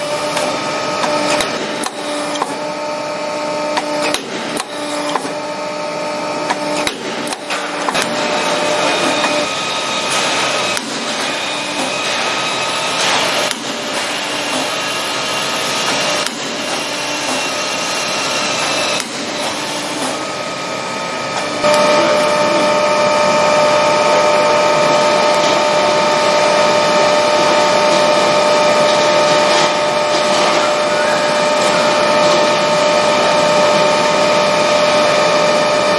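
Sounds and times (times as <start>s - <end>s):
machine whine: 0.0s - 35.9s.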